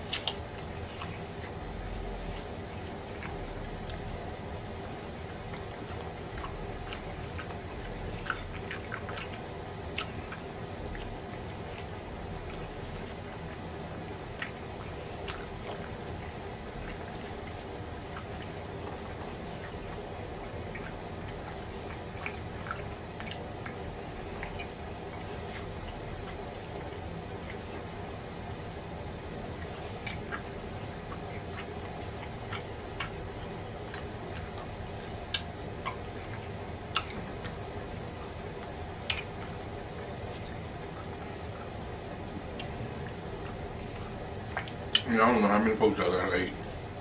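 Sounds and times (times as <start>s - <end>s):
low background noise: 0.0s - 47.0s
wet chewing and lip-smacking: 0.0s - 47.0s.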